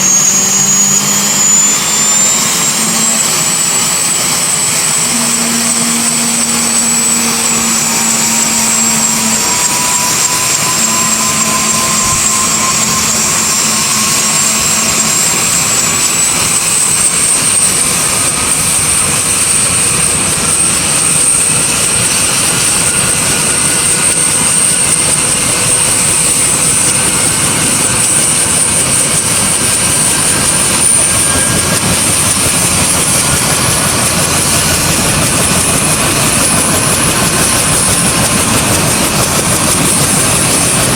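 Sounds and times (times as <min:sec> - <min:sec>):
helicopter engine and rotor: 0:00.0 - 0:40.9
high turbine whine: 0:00.0 - 0:40.9.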